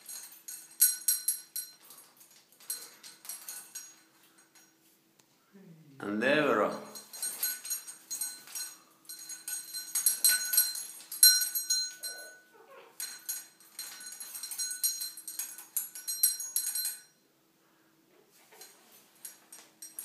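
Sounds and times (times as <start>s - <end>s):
metal rings clinking: 0.0s - 4.9s, 6.5s - 17.2s, 18.4s - 20.0s
small bell jingling: 0.0s - 4.9s, 6.5s - 17.2s, 18.5s - 20.0s.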